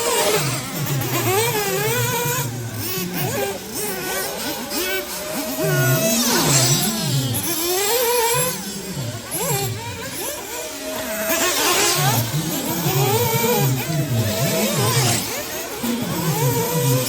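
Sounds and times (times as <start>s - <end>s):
rc buggy engines revving: 0.0s - 17.0s.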